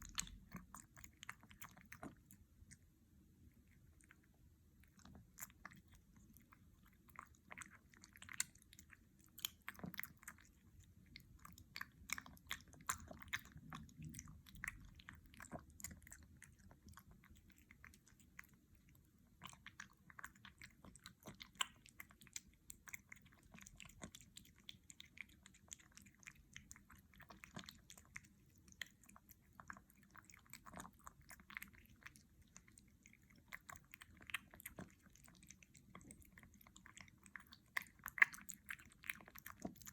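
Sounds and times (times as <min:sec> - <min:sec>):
kitten chewing wet food: 0:00.0 - 0:39.9.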